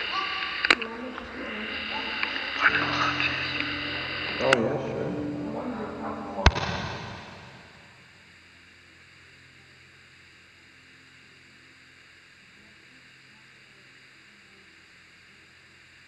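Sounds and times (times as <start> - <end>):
faint steady hiss: 0.0 - 16.0
low hum: 0.0 - 16.0.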